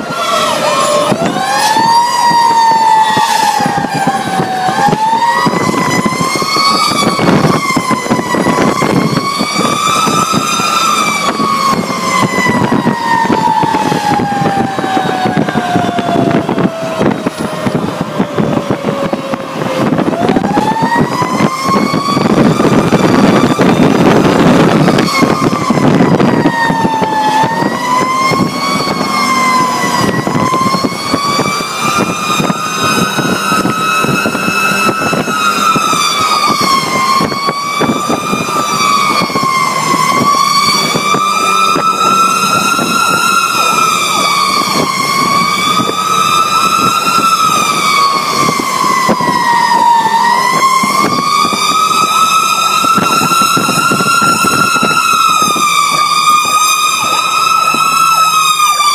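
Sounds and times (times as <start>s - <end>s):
fire truck siren wailing: 0.0s - 58.9s
truck engine and road noise: 0.0s - 58.9s.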